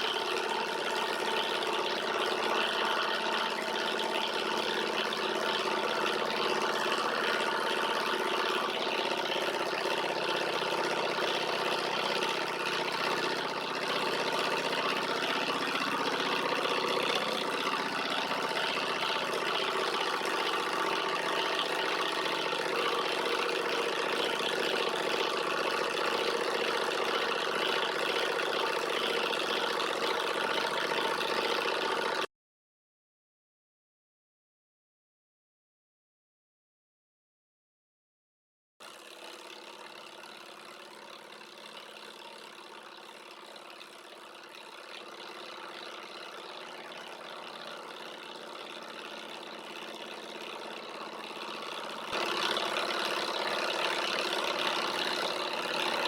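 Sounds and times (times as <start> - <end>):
stirling engine whirring: 0.0 - 32.3, 40.9 - 56.0.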